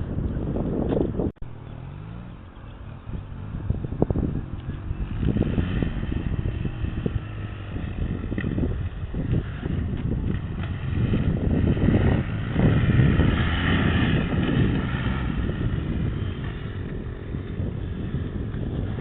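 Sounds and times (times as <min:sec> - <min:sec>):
motorcycle engine revving: 0:00.1 - 0:19.0.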